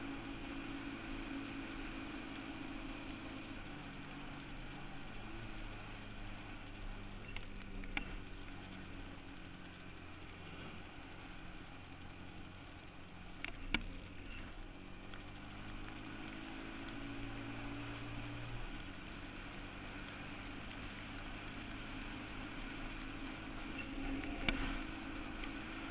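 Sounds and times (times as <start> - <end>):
atv engine running: 0.0 - 25.9.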